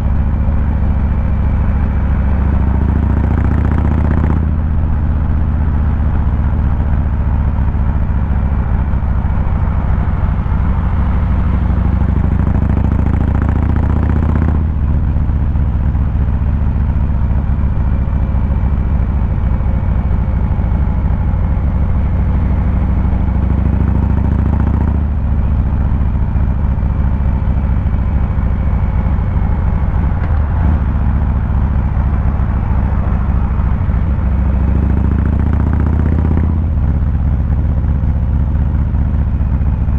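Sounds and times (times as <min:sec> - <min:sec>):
motorcycle engine deep rumble: 0:00.0 - 0:39.9.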